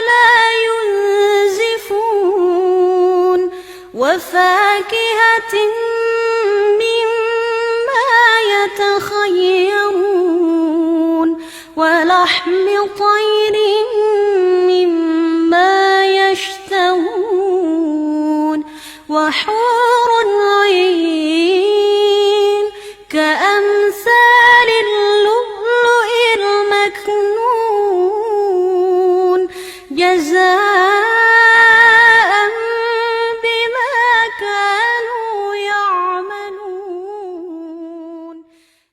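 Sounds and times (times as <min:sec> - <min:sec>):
girl reciting melodically: 0:00.0 - 0:38.5.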